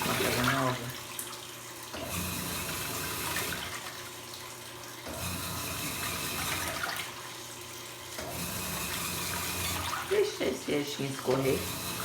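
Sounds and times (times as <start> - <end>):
washing machine motor humming: 0.0 - 12.0
water sloshing in washing machine: 0.0 - 12.0.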